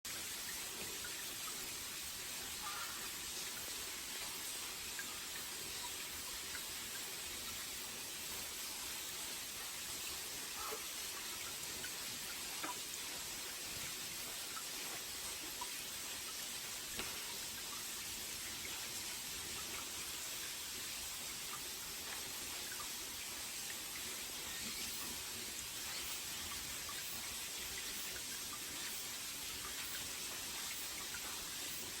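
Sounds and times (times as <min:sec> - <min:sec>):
small water drips: 0:00.1 - 0:32.0
water splashing from a spout: 0:00.1 - 0:32.0.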